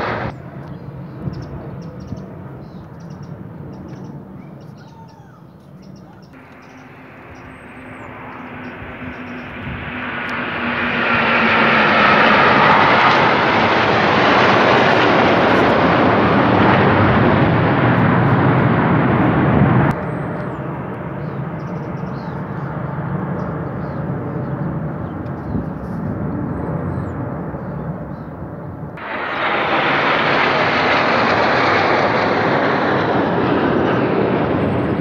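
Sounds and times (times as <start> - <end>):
jets roaring overhead: 0.0 - 35.0.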